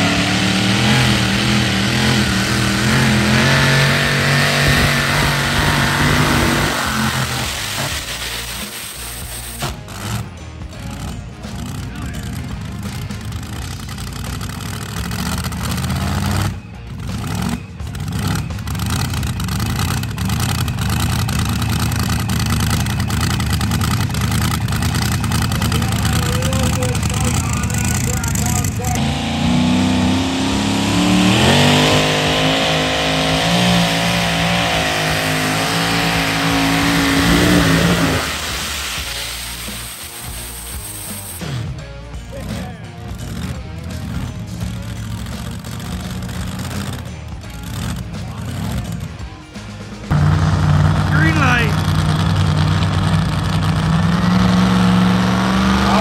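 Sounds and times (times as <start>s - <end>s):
tractor engine at high revs: 0.0s - 56.0s.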